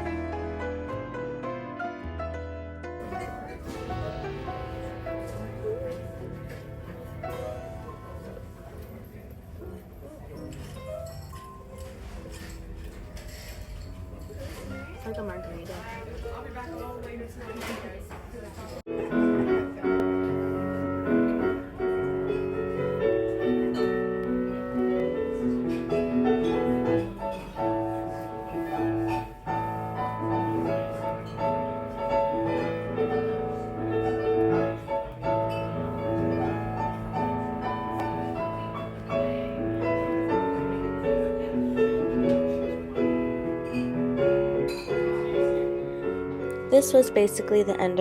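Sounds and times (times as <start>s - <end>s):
piano music: 0.0s - 17.1s, 18.9s - 48.0s.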